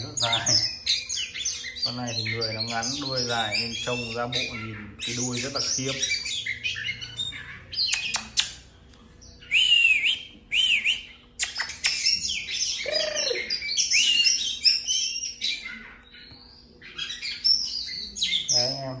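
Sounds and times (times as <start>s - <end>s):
bird singing whistled notes: 0.0s - 8.5s, 9.2s - 19.0s.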